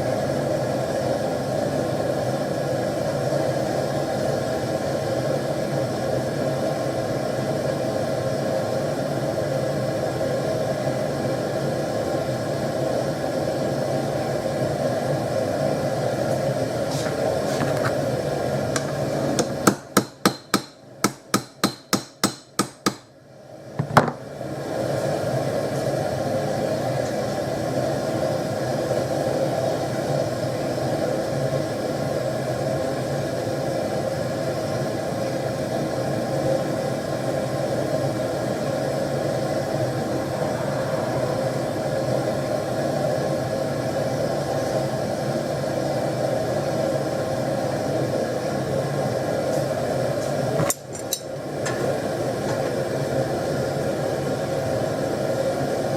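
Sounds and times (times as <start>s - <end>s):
gas forge burner roaring: 0.0s - 55.9s.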